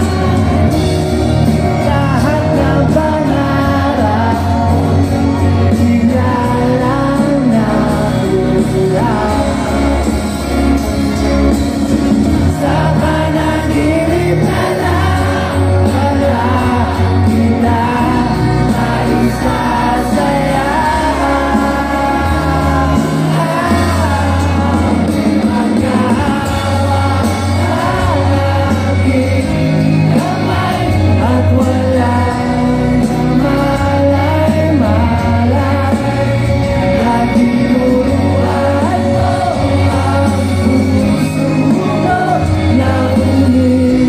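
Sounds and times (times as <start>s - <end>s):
live rock band playing: 0.0s - 44.0s
person singing: 0.0s - 44.0s.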